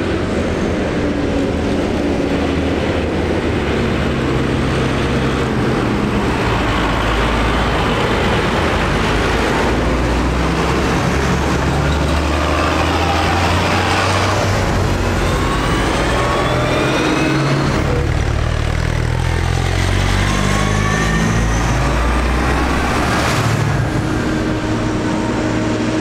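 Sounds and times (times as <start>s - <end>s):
tractor diesel engines droning: 0.0s - 26.0s.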